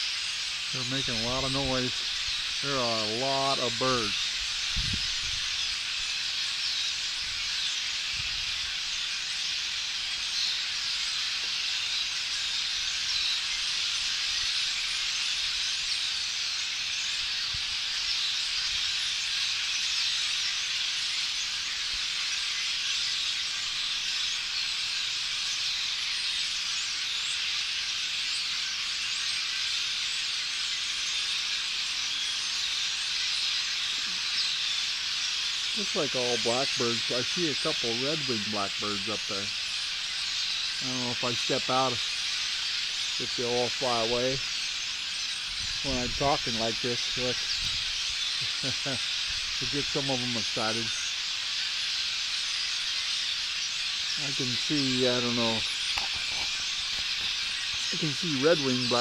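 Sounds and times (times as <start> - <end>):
flock of blackbirds calling: 0.0 - 59.0.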